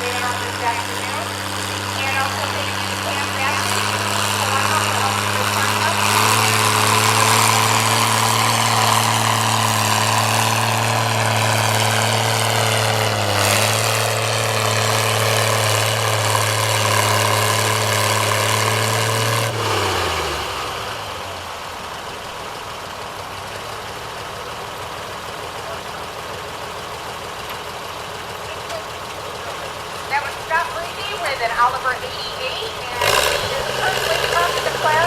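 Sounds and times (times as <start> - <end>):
tractor engine running hard: 0.0 - 35.0.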